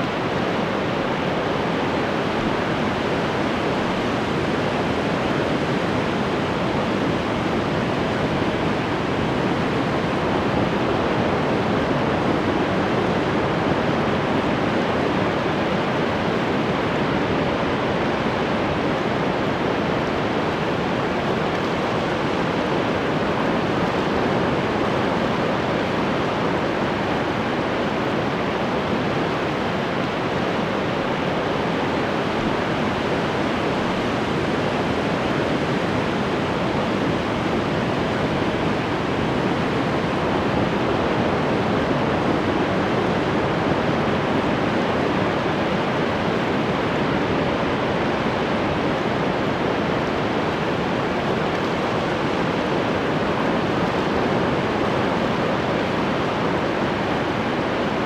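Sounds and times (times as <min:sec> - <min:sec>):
ocean waves washing on shore: 0:00.0 - 0:58.0.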